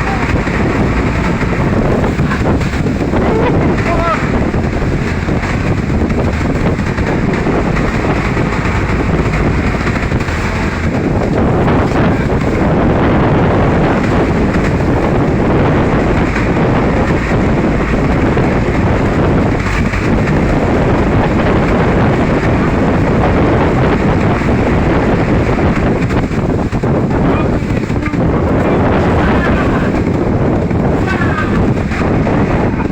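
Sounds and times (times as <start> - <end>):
strong wind buffeting microphone: 0.0 - 32.9.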